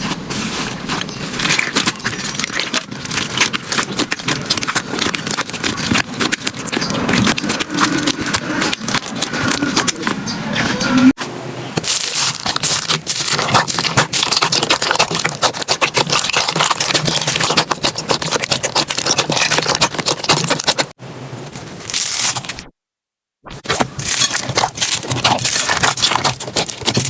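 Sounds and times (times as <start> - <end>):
slime squeezed crackling: 0.0 - 10.1, 11.8 - 20.9, 23.7 - 27.0.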